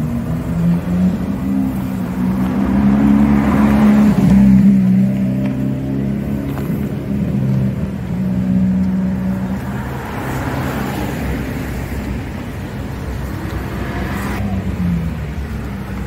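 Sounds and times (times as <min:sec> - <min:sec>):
car tyre noise passing: 0:00.0 - 0:16.0
cars driving past: 0:00.0 - 0:16.0.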